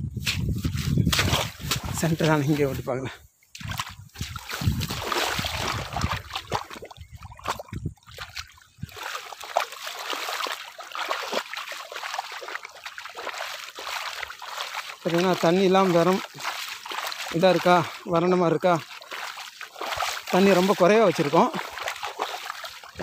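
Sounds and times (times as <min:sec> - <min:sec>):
muddy water sloshing and splashing: 0:00.1 - 0:23.0
water trickling: 0:03.3 - 0:23.0.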